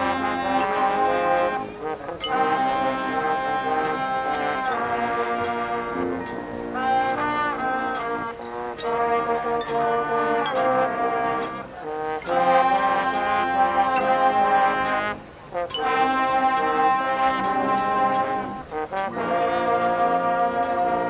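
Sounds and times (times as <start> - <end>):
brass chords: 0.0 - 21.0.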